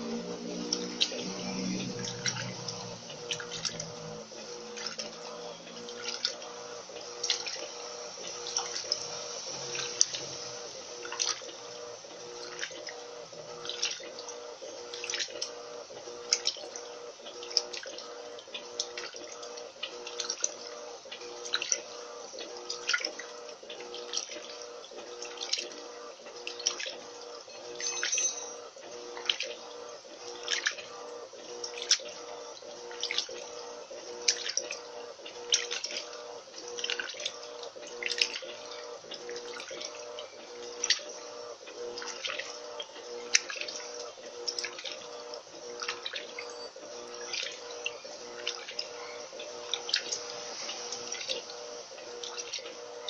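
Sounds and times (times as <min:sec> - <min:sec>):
washing machine hum: 0:00.0 - 0:53.0
water and clothes sloshing: 0:00.0 - 0:53.0.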